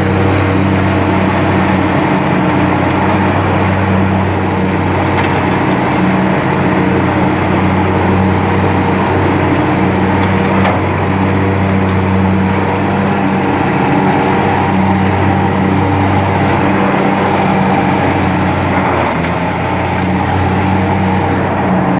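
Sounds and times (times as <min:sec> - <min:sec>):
engine running steadily: 0:00.0 - 0:21.9.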